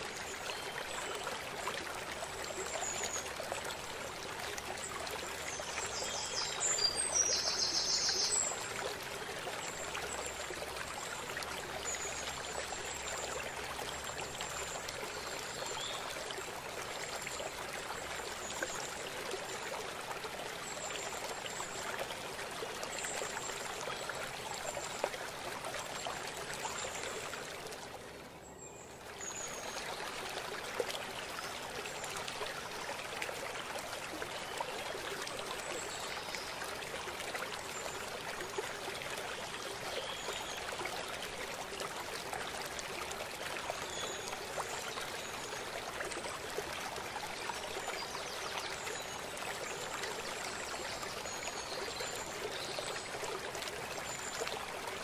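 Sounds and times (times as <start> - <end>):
waterfall and stream over rocks: 0.0 - 55.0.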